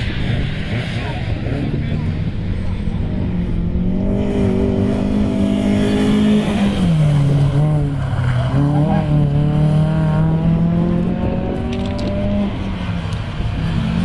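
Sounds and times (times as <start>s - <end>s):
race car engine running hard: 0.0s - 14.0s.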